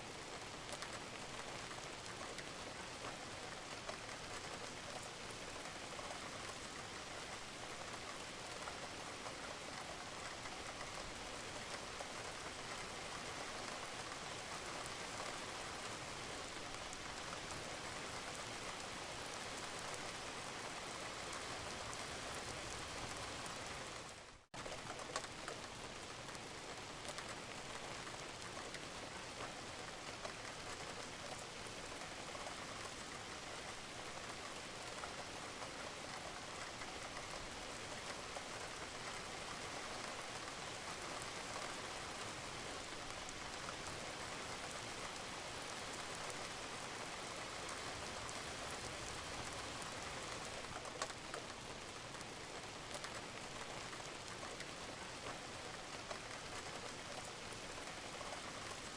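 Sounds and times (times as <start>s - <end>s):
rain falling on a roof: 0.0s - 58.9s.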